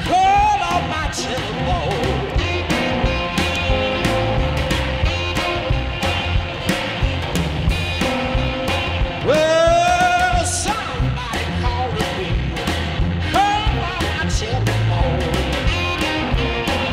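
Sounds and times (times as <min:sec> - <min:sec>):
drum beat: 0:00.0 - 0:16.9
guitar: 0:00.0 - 0:16.9
rock song: 0:00.0 - 0:16.9.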